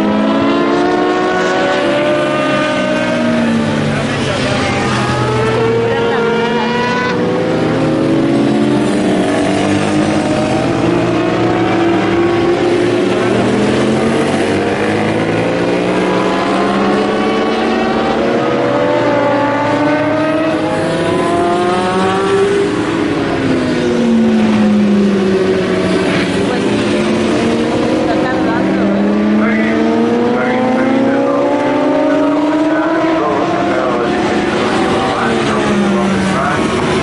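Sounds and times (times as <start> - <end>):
racing motorcycles accelerating: 0.0 - 37.0.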